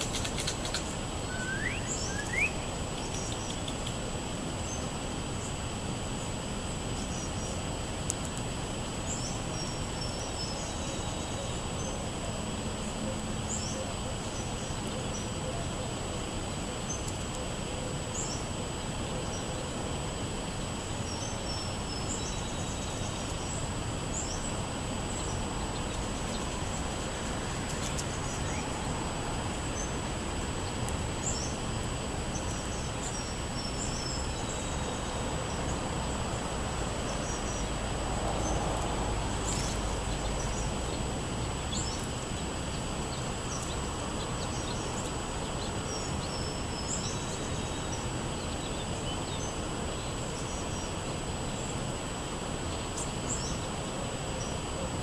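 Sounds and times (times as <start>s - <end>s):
outdoor background hum: 0.0s - 55.0s
songbirds chirping: 0.0s - 55.0s.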